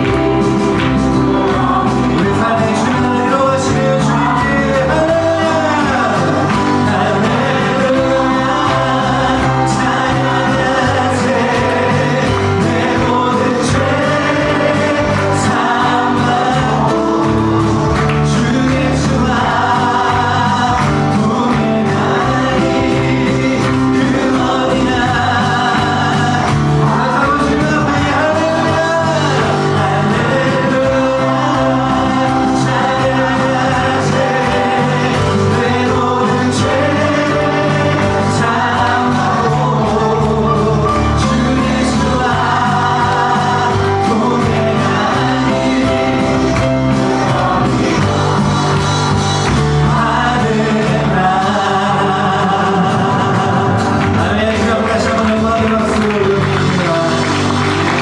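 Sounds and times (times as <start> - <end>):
band with bass and guitar: 0.0 - 58.0
voices singing a praise song: 0.0 - 58.0.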